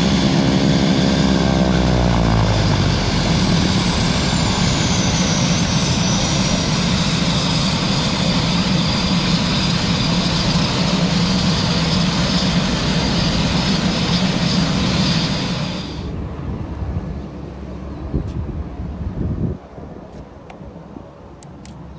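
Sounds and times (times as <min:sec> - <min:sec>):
high turbine whine: 0:00.0 - 0:18.2
propeller drone: 0:00.0 - 0:19.0.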